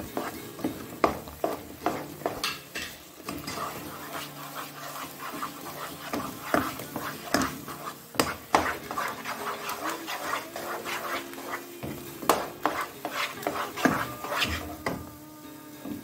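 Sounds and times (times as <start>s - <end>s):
spatula scraping pan: 0.0s - 15.1s.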